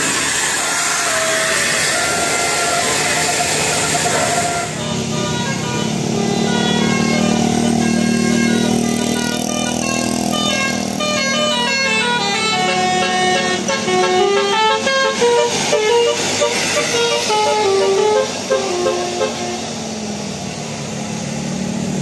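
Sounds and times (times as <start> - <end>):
bus horn playing a tune: 0.0 - 19.9.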